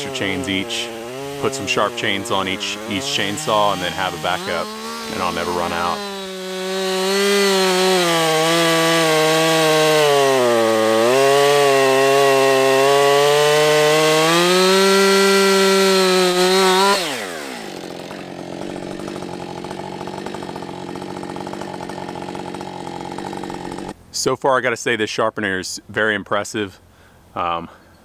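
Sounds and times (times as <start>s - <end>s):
chainsaw cutting log: 0.0s - 24.0s.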